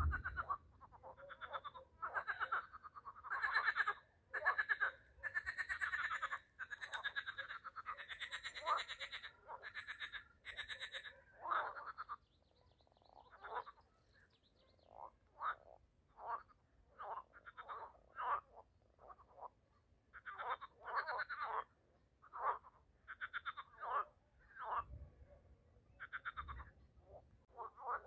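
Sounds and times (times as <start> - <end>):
frogs calling: 0.0 - 12.2, 14.8 - 24.9, 25.9 - 28.0.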